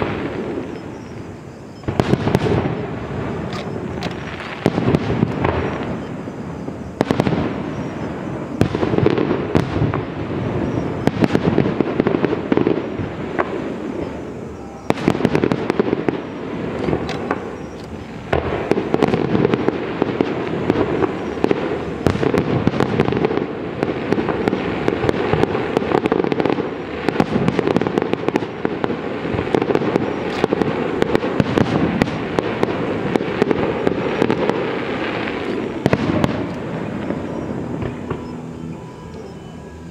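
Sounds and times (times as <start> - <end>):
fireworks crackling and booming: 0.0 - 39.9.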